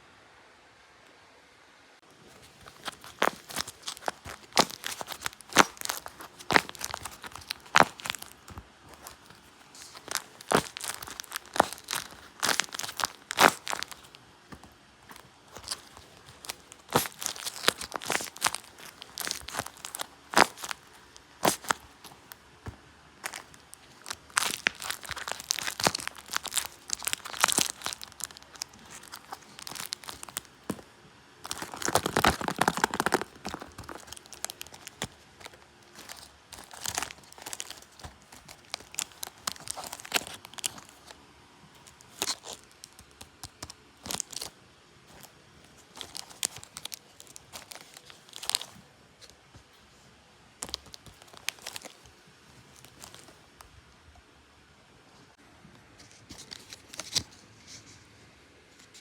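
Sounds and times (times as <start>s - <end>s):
paper crinkling: 2.1s - 41.2s, 41.8s - 49.8s, 50.6s - 53.6s, 56.0s - 57.9s.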